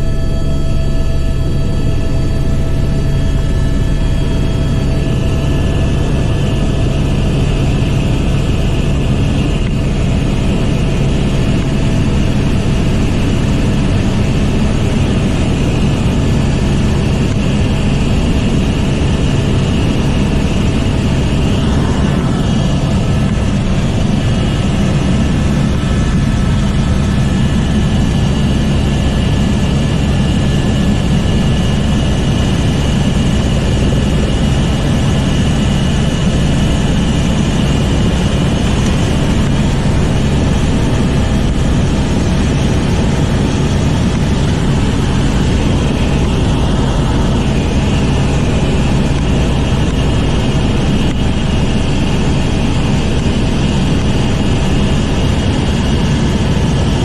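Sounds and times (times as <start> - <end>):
constant whining tones: 0.0 - 57.0
helicopter engine and rotor drone: 0.0 - 57.0.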